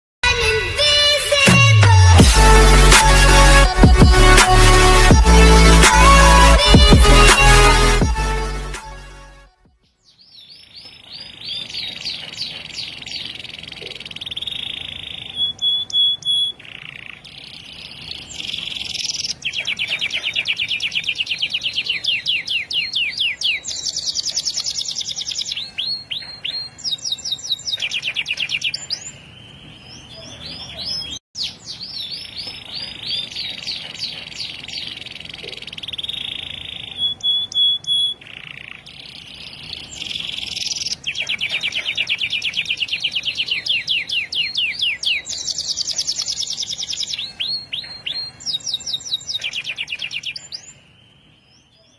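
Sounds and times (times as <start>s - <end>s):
canary singing: 9.8s - 51.9s.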